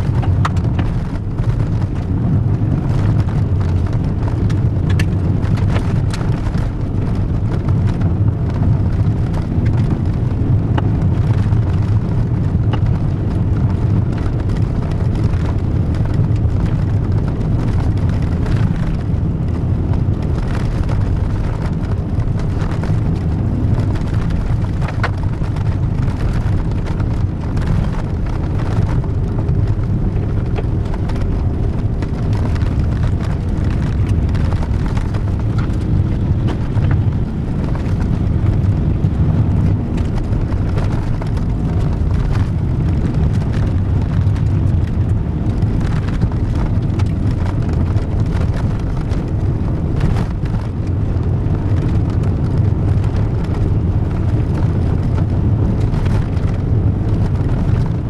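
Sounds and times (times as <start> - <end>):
car engine drone: 0.0 - 58.0
stones clicking against car: 0.0 - 58.0
tyres rumbling on gravel: 0.0 - 58.0.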